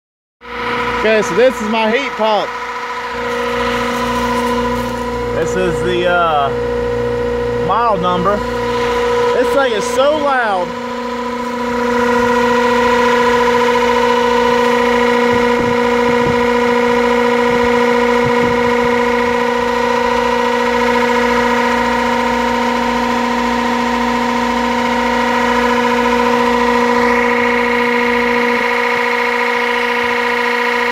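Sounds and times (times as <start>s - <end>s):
heat pump droning: 0.4s - 30.9s.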